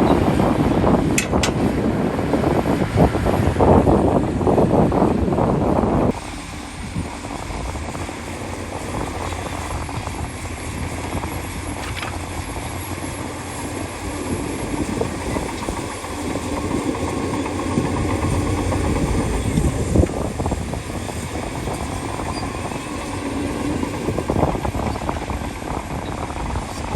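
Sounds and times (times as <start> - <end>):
heavy machinery diesel engine: 0.0 - 26.9.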